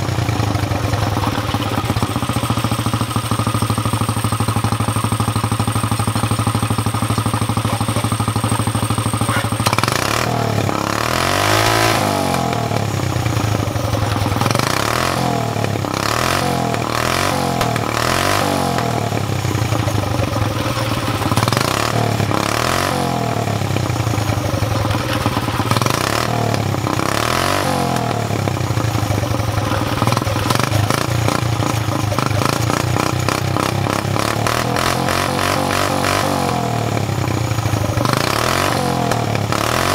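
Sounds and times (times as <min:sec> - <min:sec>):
go-kart engine idling and revving: 0:00.0 - 0:39.9.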